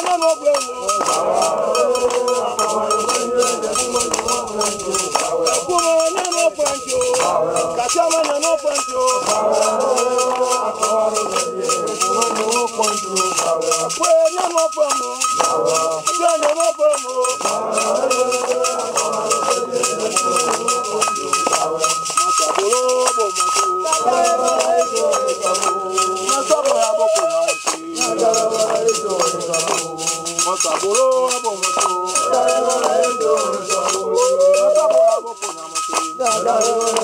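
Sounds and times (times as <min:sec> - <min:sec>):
hand rattle shaken: 0:00.0 - 0:37.0
man chanting: 0:00.0 - 0:37.0.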